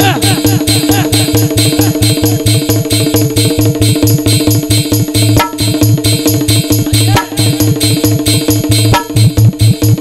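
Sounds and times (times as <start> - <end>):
fast drum beat: 0.0 - 10.0.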